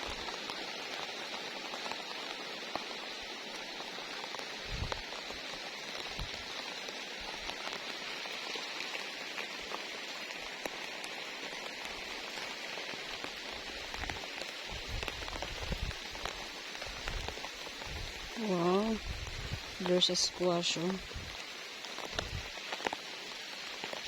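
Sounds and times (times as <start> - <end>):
raindrop ticks: 0.0 - 24.0
steady rain falling: 0.0 - 24.0.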